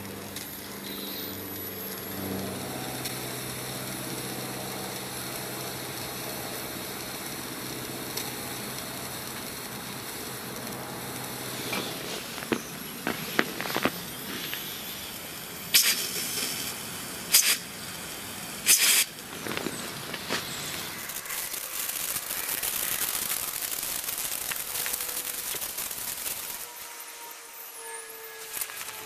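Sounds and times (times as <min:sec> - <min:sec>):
small steam engine running: 0:00.0 - 0:29.0
steam hiss bursts: 0:00.5 - 0:27.8.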